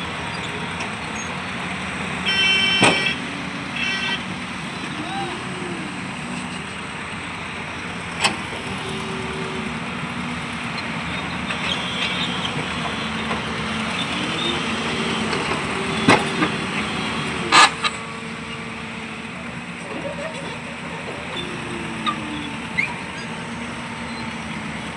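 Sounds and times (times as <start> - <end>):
vehicle engine running: 0.0 - 24.8.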